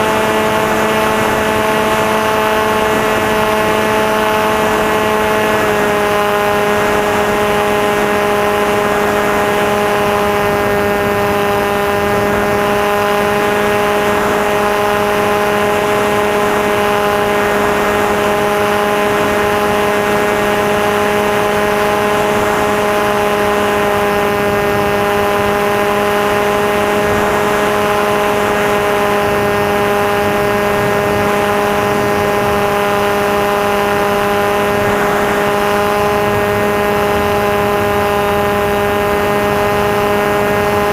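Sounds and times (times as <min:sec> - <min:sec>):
model aircraft motor whine: 0:00.0 - 0:40.9.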